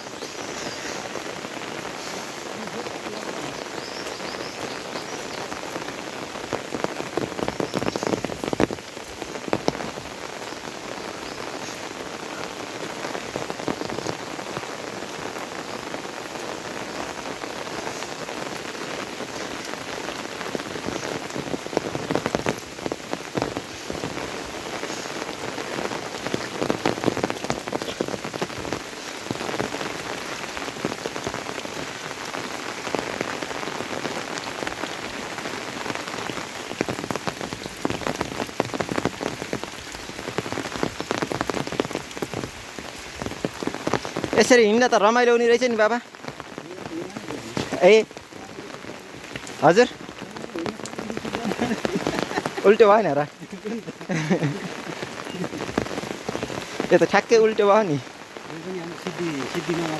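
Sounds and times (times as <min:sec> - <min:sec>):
sharp raindrop impacts: 0:00.0 - 0:59.9
steady rain falling: 0:00.0 - 0:59.9.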